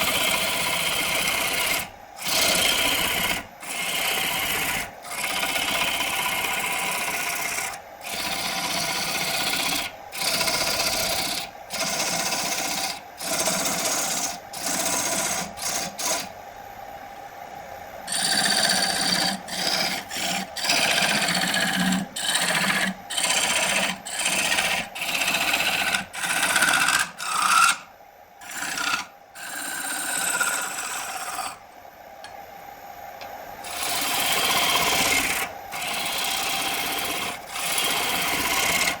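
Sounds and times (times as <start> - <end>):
rasp rubbing against wood: 0.0 - 16.3, 18.1 - 27.8, 28.4 - 31.6, 33.7 - 39.0.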